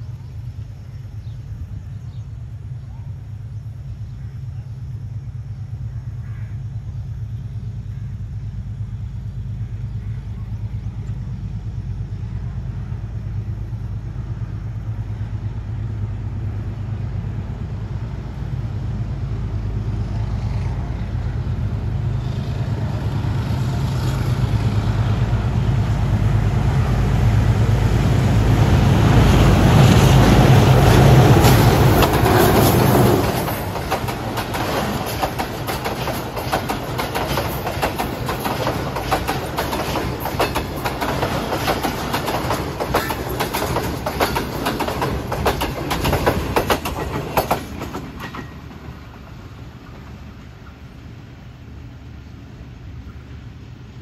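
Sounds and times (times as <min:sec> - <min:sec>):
diesel locomotive engine drone: 0:00.0 - 0:54.0
train rushing noise: 0:00.0 - 0:54.0.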